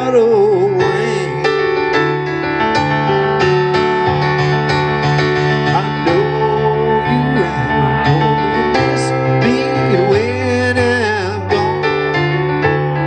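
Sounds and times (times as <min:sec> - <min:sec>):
keyboard playing chords and melody: 0:00.0 - 0:13.0.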